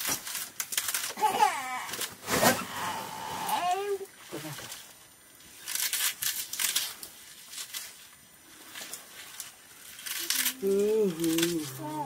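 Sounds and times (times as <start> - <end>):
leafy greens being torn by hand: 0.0 - 2.5, 4.4 - 12.0.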